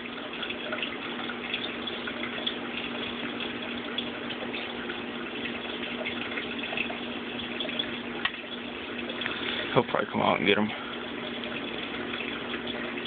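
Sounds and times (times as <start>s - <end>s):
aquarium water splashing: 0.0s - 13.0s
low steady hum: 0.0s - 13.0s.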